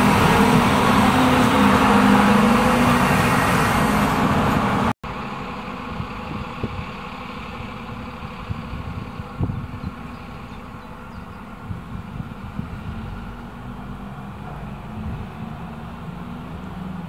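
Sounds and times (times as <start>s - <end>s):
diesel train passing: 0.0s - 17.0s.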